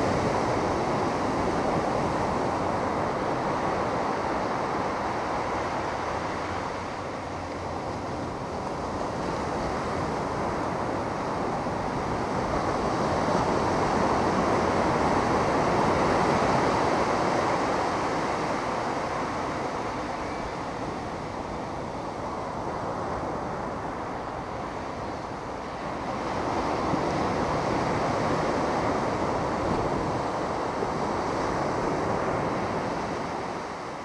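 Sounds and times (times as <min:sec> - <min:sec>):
ocean surf washing onto beach: 0:00.0 - 0:34.0
wind on microphone: 0:00.0 - 0:34.0.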